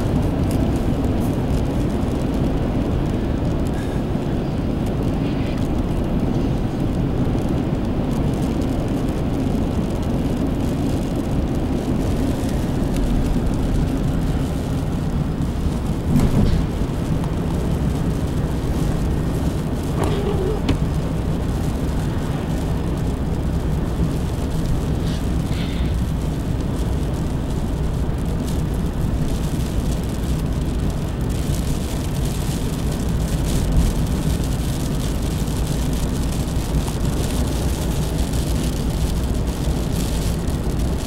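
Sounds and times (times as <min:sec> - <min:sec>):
car road and wind noise: 0:00.0 - 0:41.0.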